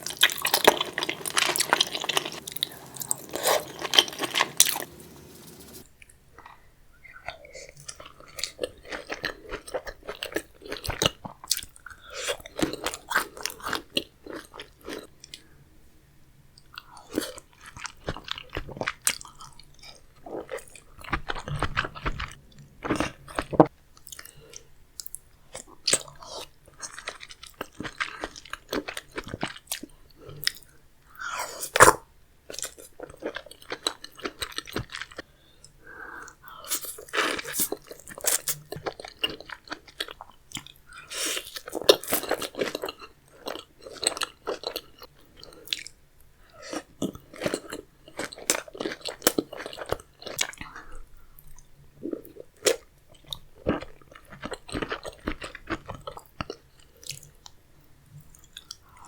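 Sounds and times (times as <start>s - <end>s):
person chewing and crunching food: 0.0s - 5.8s, 7.3s - 15.5s, 16.6s - 31.8s, 32.5s - 59.0s.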